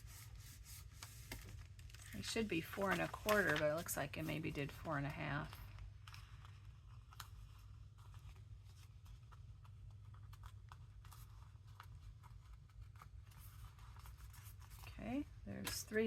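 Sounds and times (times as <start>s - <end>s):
paper rustling: 0.0s - 16.0s.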